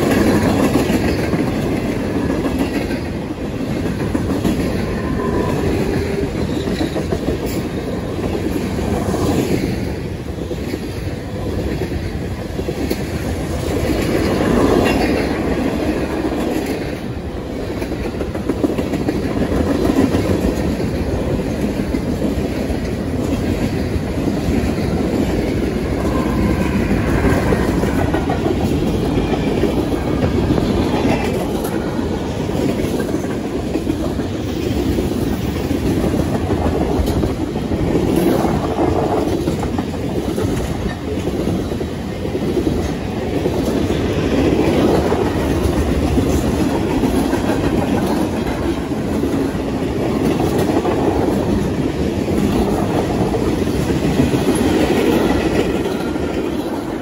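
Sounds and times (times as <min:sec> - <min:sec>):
wheels clacking over rail joints: 0:00.0 - 0:57.0.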